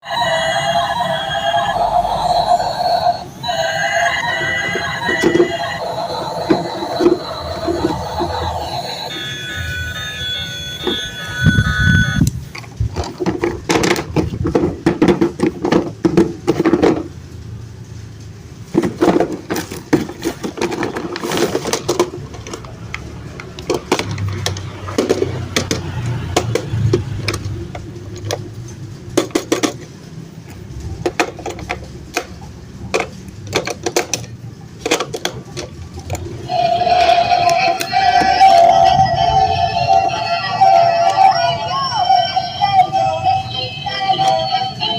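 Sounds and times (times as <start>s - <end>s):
plastic toys and packaging handled: 0.1s - 17.2s, 18.6s - 44.9s.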